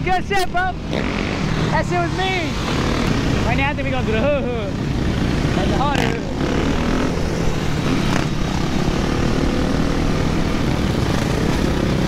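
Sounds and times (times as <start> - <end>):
dirt bike engines droning: 0.0 - 12.0.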